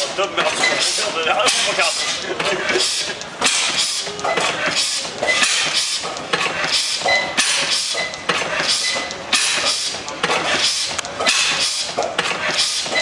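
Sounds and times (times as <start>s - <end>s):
stationary gas engine hissing pulse: 1.6s - 13.0s.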